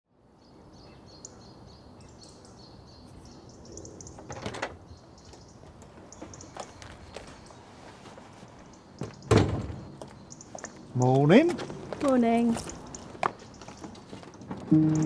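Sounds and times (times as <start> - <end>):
low street background: 0.1 - 15.0
small birds chirping: 0.3 - 15.0.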